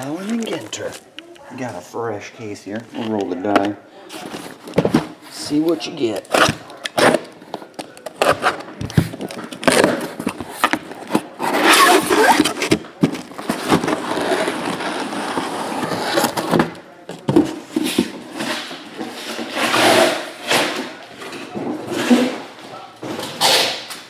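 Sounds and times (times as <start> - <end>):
packing tape and cardboard scraping: 4.1 - 16.8, 17.4 - 24.0.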